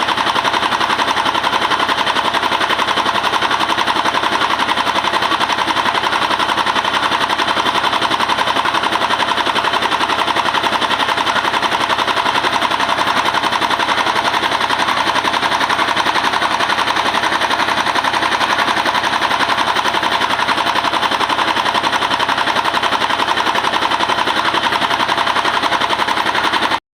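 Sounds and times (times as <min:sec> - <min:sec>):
diesel engine pulsing: 0:00.0 - 0:26.8
milling machinery: 0:00.0 - 0:26.8.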